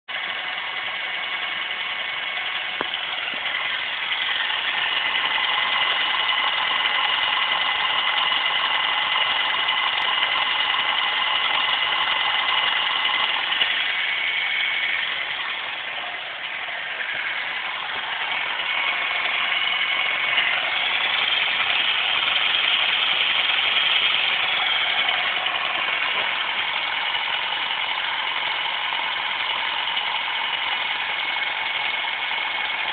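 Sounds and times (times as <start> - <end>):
car engine idling: 0.0 - 32.9
steady high whine: 0.1 - 32.9.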